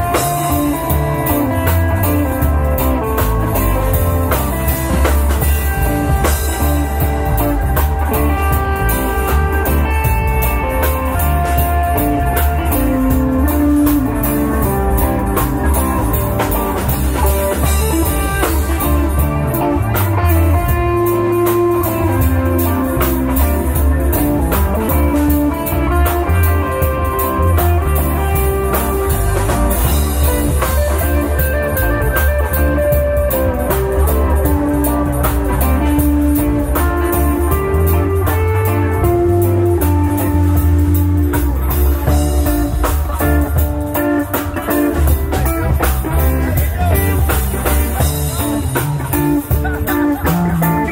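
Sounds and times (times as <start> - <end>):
drum kit beat: 0.0 - 50.9
electric guitars: 0.0 - 50.9.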